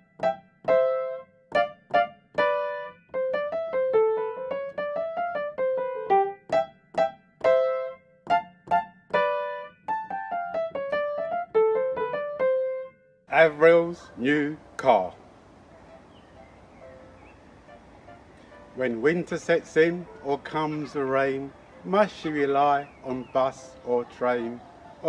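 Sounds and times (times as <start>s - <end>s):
piano melody: 0.0s - 13.7s, 15.9s - 25.0s.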